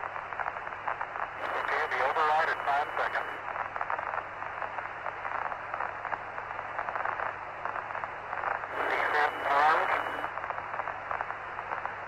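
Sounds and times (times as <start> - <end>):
radio static hiss: 0.4 - 12.0.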